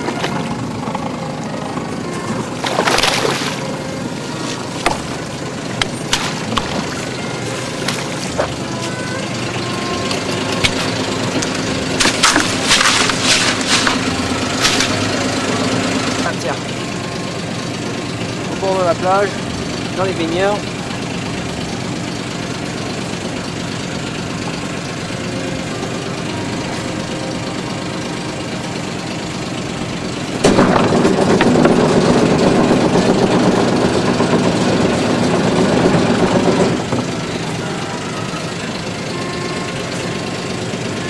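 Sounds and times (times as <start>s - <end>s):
boat engine idling: 0.0s - 41.0s.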